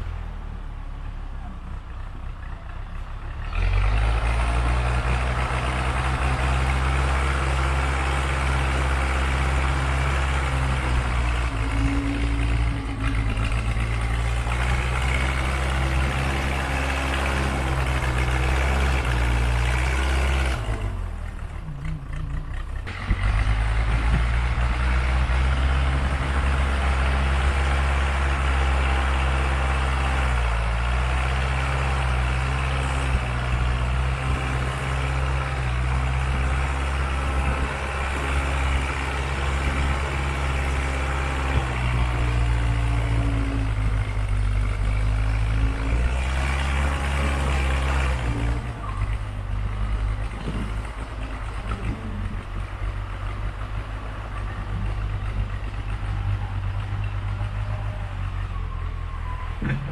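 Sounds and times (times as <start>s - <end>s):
backhoe engine under load: 0.0s - 59.9s.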